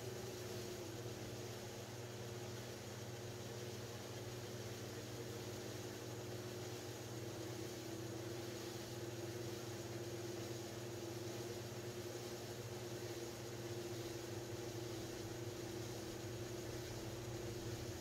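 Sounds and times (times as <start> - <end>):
pottery wheel motor hum: 0.0 - 18.0.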